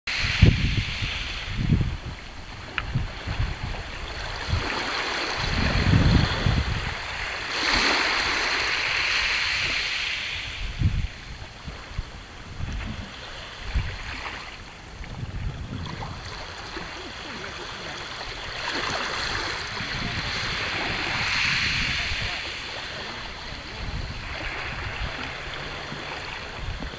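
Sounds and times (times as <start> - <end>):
sea lapping at shore: 0.1 - 26.9
wind rumbling on microphone: 0.1 - 26.9.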